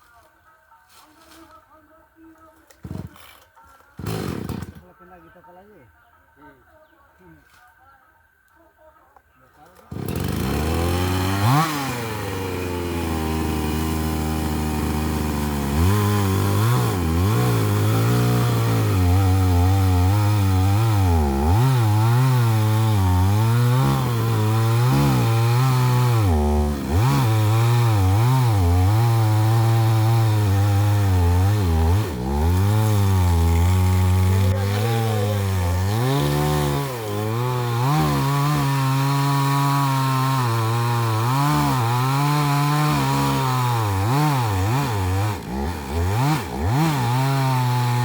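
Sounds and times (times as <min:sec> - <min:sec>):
chainsaw cutting tree: 0:02.8 - 0:04.8, 0:09.8 - 0:48.0.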